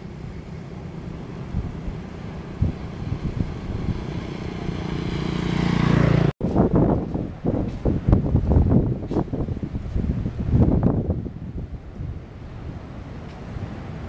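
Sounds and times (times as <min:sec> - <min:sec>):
motorbike engine on a road: 0:00.0 - 0:14.0
wind buffeting the microphone: 0:01.3 - 0:14.0.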